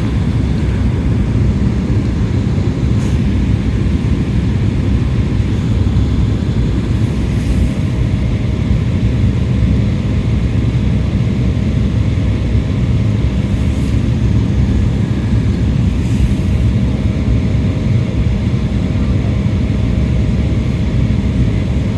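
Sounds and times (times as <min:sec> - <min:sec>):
faint constant hum: 0:00.0 - 0:21.9
jet engine and airflow rumble: 0:00.0 - 0:21.9.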